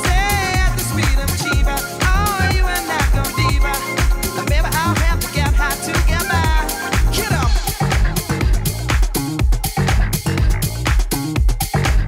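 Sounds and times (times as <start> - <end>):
disco dance music: 0.0 - 12.0.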